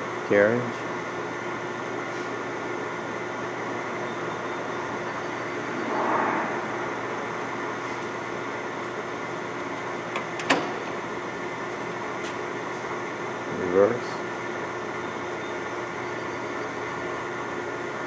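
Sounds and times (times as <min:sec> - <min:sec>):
lathe running: 0:00.8 - 0:18.0.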